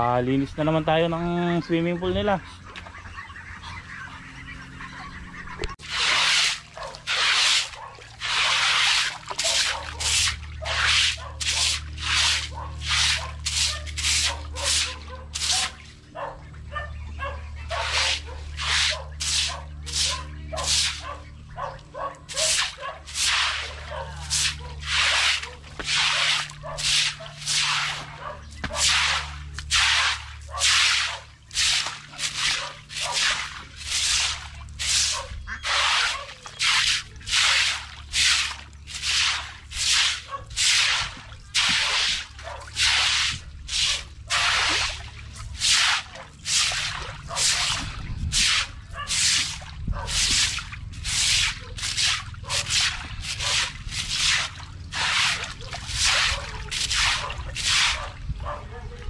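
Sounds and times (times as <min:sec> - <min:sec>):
wet swishing of water: 0:05.7 - 0:16.2, 0:17.7 - 0:58.4.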